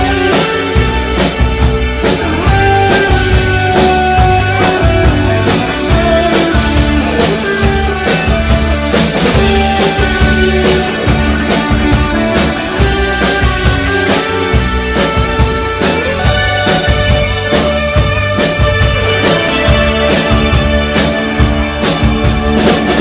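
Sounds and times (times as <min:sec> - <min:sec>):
live band playing loud: 0:00.0 - 0:23.0.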